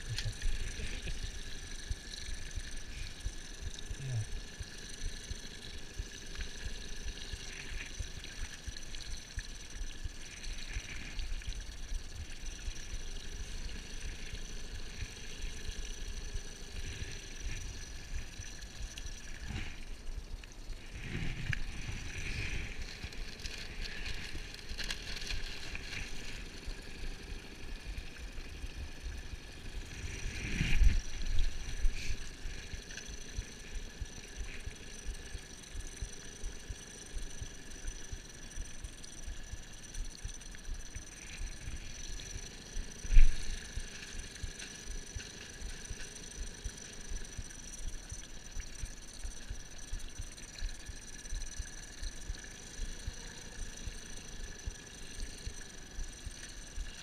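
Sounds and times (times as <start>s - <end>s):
faint steady whine: 0.0s - 57.0s
water lapping at a boat: 0.0s - 57.0s.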